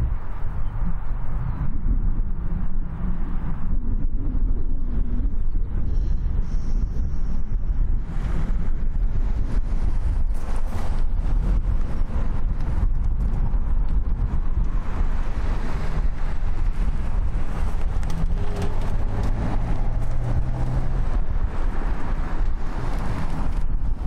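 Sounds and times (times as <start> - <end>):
jet engines low rumble: 0.0 - 24.0
wind buffeting microphone: 0.0 - 24.0.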